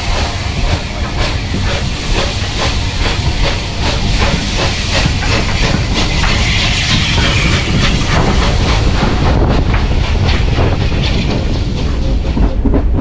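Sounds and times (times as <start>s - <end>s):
steam hissing: 0.0s - 12.6s
steam train rumble: 0.0s - 13.0s
train wheels clicking over rail joints: 0.0s - 13.0s.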